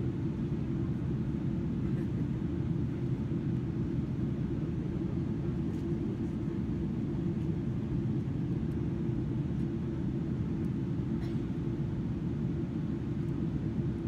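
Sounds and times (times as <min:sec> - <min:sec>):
jet engines in aircraft cabin: 0:00.0 - 0:14.0.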